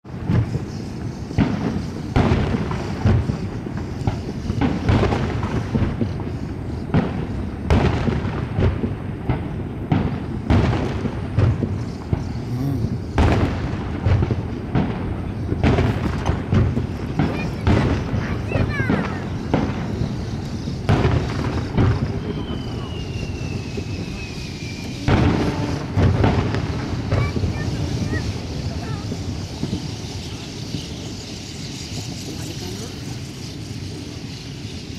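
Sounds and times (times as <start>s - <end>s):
firework shells booming: 0.1s - 34.9s.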